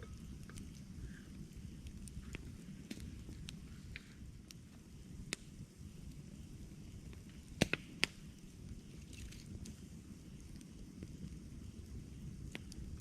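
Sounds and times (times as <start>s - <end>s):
burning wood popping: 0.0s - 13.0s
campfire crackling: 0.0s - 13.0s.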